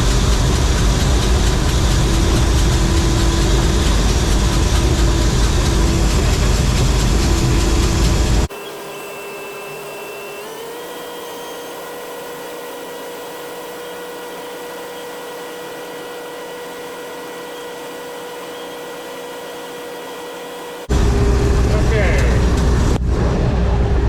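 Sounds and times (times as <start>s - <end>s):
motor whine: 0.0s - 24.0s.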